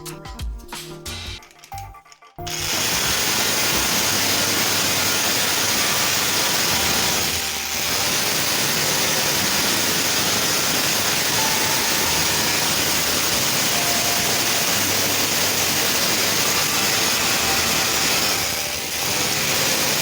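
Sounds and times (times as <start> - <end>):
angle grinder running: 2.4 - 20.0.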